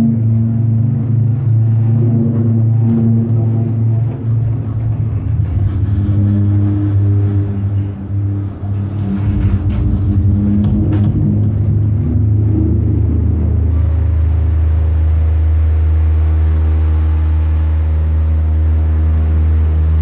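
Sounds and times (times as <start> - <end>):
low feedback drone: 0.0 - 20.0.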